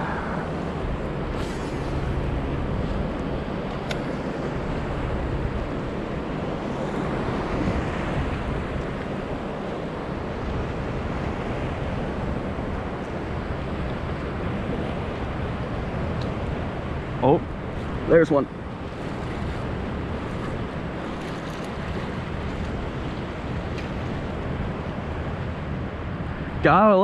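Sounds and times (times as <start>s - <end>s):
wind noise on microphone: 0.0s - 26.7s
ocean surf: 0.0s - 27.0s.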